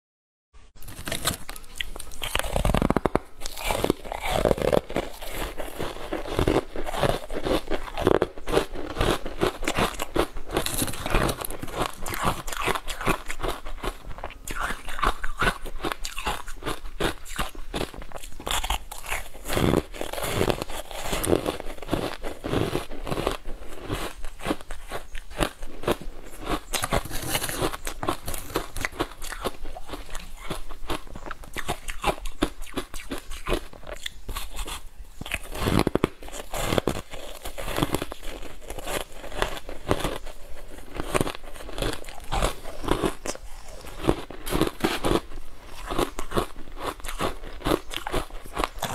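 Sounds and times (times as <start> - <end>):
ice cubes crunching: 0.8 - 48.9.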